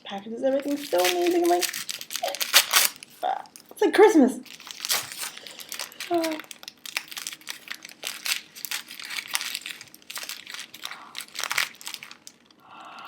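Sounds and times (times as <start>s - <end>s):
paper crumpling and crinkling: 0.5s - 3.7s, 4.4s - 12.6s.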